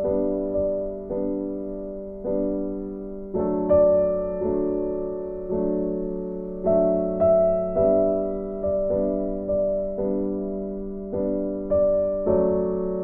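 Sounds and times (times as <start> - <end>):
slow piano tune: 0.0 - 13.0.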